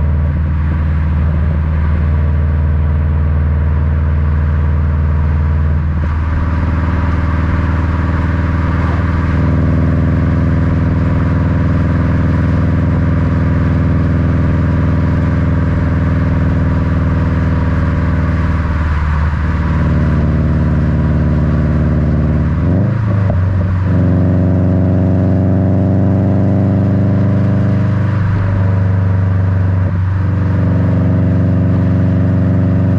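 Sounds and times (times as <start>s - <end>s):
car exhaust rumbling: 0.0s - 32.9s.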